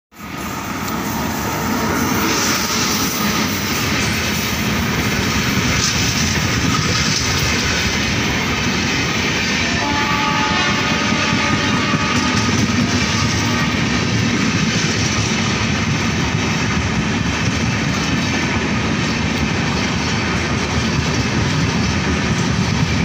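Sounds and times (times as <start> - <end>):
train wheels rumbling and clattering: 0.2 - 23.0.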